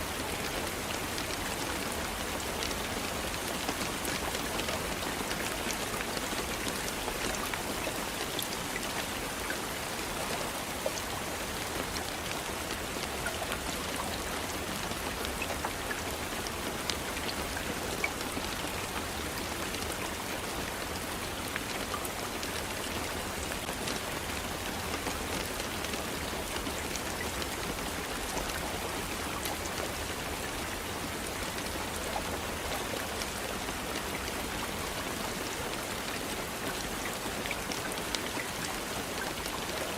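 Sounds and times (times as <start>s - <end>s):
raindrops ticking on a surface: 0.0s - 39.9s
steady rainfall: 0.0s - 39.9s.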